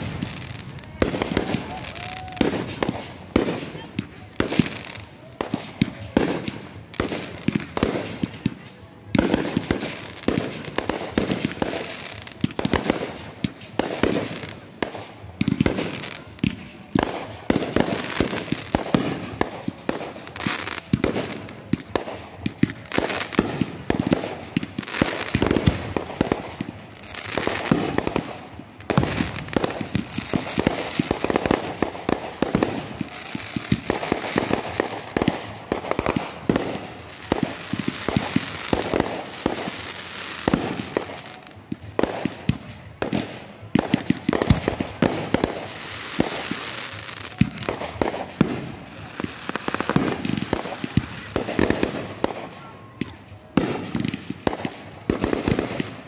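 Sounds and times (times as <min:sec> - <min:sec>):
fireworks bangs and pops: 0:00.0 - 0:56.0.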